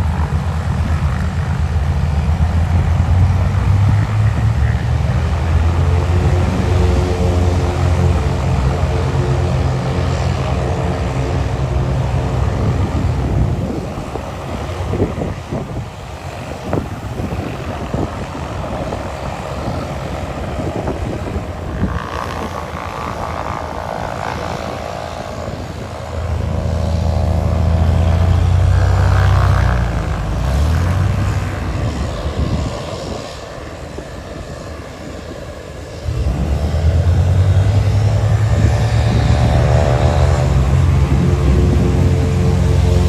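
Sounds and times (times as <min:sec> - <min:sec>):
propeller airplane engine drone: 0:00.0 - 0:43.0
wind buffeting microphone: 0:00.0 - 0:43.0.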